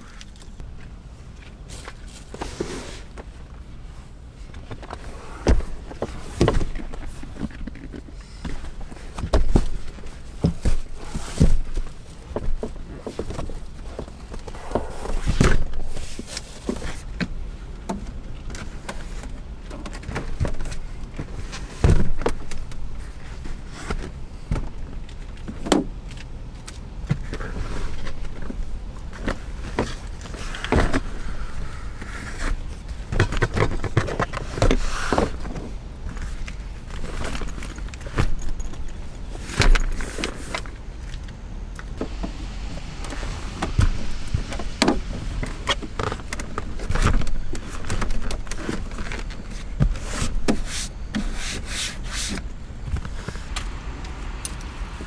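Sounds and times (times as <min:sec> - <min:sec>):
rustling of things handled: 0:00.0 - 0:54.4
faint steady background noise: 0:00.0 - 0:55.0.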